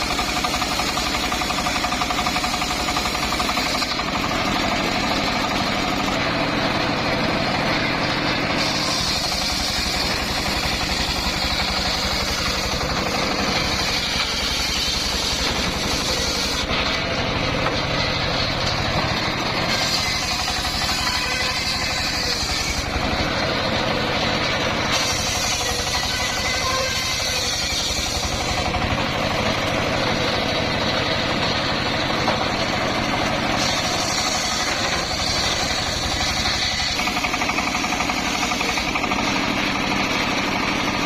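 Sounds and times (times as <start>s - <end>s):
circular saw cutting timber: 0.0s - 41.0s
sawmill engine knocking: 0.0s - 41.0s.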